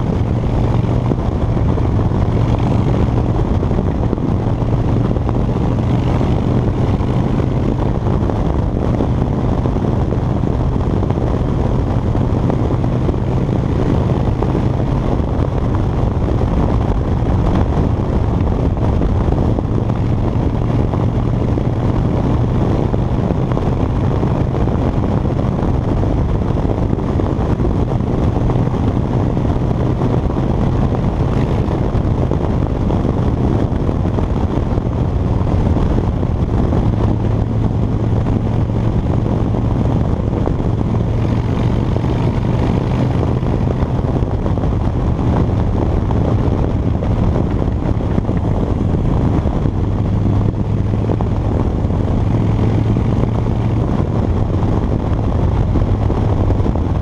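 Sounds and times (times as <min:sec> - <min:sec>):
motorcycle engine cruising: 0:00.0 - 0:57.0
wind rushing over camera: 0:00.0 - 0:57.0.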